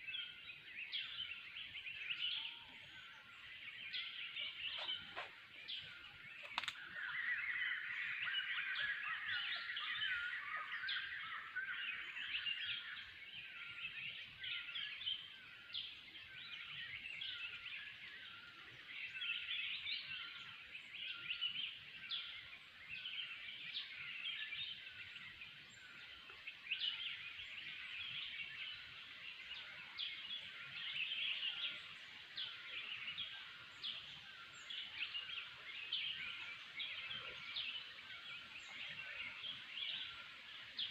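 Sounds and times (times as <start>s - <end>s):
forest birds chirping: 0.0s - 40.9s.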